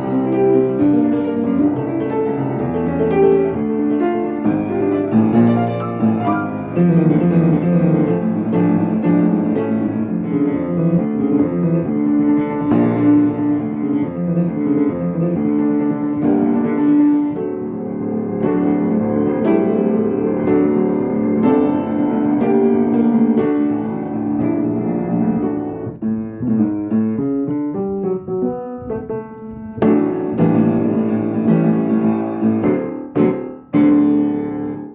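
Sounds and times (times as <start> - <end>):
piano piece: 0.0 - 34.9.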